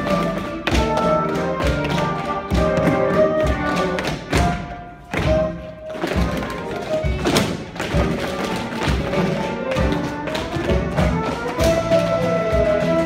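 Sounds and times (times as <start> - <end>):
show tune music: 0.0 - 13.0
tap shoes on wooden floor: 0.0 - 13.0.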